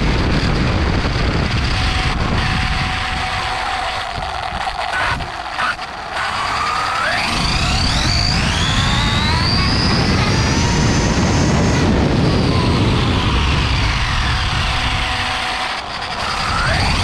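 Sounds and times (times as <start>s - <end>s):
rc car motor whining: 0.0s - 17.0s
wind and tyre noise: 0.0s - 17.0s.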